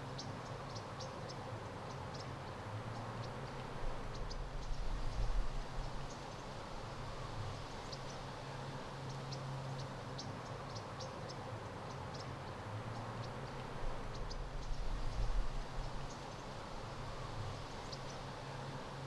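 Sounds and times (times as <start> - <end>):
small birds chirping: 0.0 - 8.4, 9.0 - 18.8.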